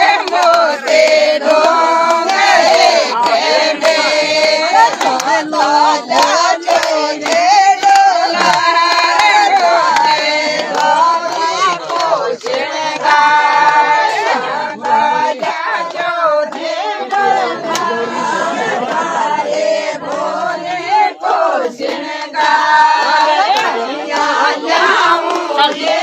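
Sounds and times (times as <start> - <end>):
hand claps: 0.0 - 26.0
women singing folk song: 0.0 - 26.0.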